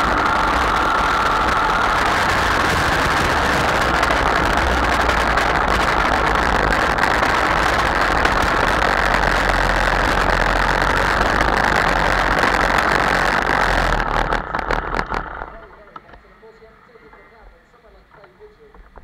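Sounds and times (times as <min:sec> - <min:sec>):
kart engine running: 0:00.0 - 0:15.6.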